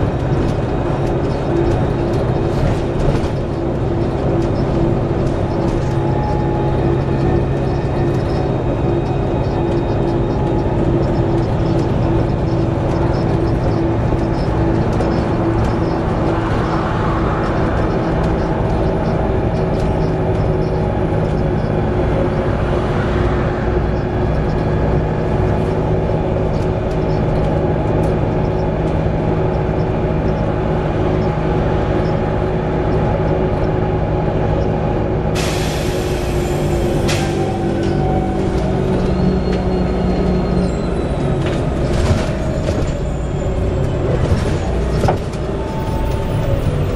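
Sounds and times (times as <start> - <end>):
bus engine drone: 0.0 - 46.9
continuous whine: 0.0 - 46.9.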